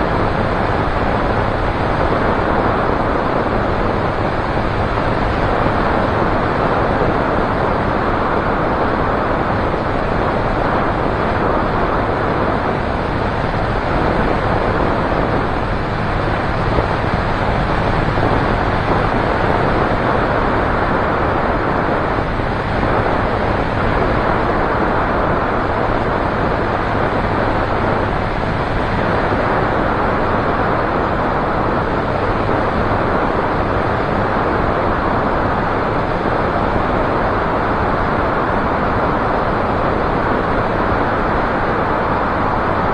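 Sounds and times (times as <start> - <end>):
propeller aircraft engine drone: 0.0 - 42.9
wind rush on microphone: 0.0 - 42.9.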